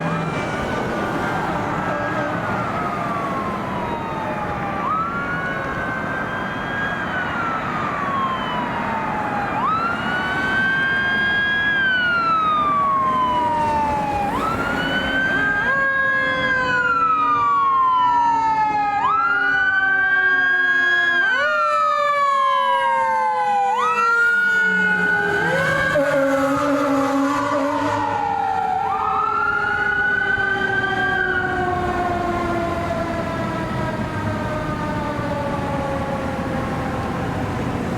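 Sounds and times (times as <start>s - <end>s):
fire engine siren wailing: 0.0s - 37.9s
lower wailing siren tone: 0.0s - 37.9s.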